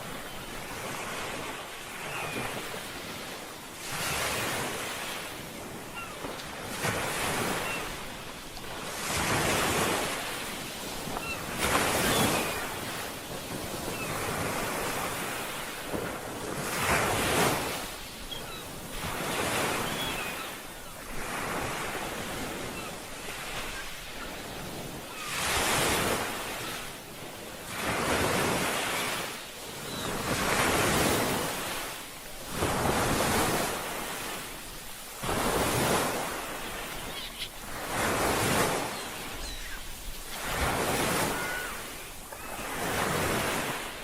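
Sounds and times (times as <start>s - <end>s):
ocean waves breaking: 0.0s - 44.0s.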